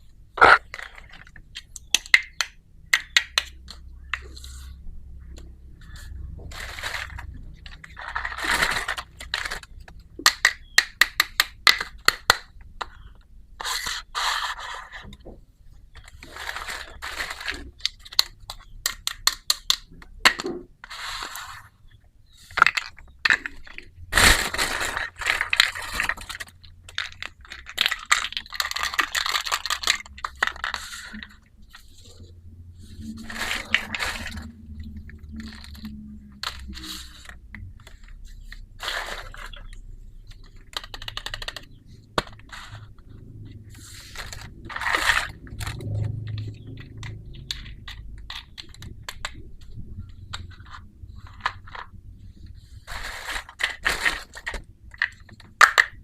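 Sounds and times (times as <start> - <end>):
plastic scraping: 0.0 - 2.4, 3.2 - 10.8, 11.7 - 56.0
plastic toy pieces clicking: 0.4 - 4.4, 6.5 - 14.0, 16.0 - 21.6, 22.4 - 32.2, 33.0 - 43.1, 44.1 - 51.9, 52.9 - 56.0.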